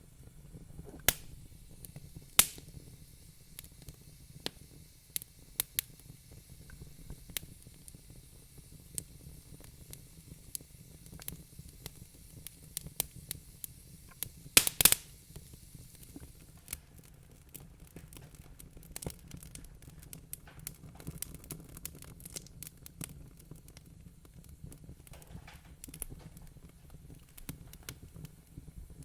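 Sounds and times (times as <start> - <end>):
low rumble and hiss: 0.0 - 29.0
wood fire crackling: 0.0 - 29.0.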